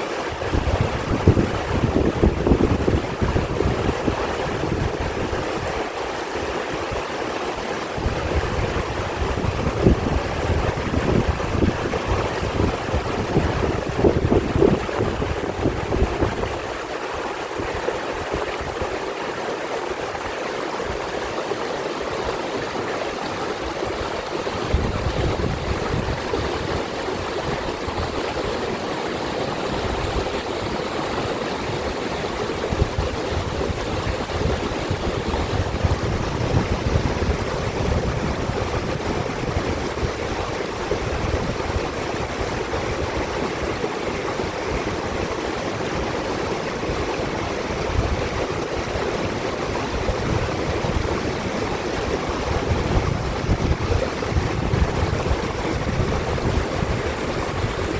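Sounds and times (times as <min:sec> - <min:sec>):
stream flowing: 0:00.0 - 0:57.9
wind rumbling on microphone: 0:00.2 - 0:19.2, 0:21.9 - 0:57.9.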